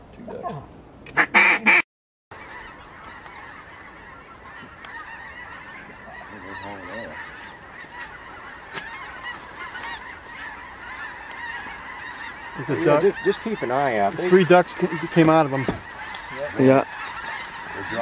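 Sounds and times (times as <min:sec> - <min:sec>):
flock of geese honking: 0:01.1 - 0:18.0.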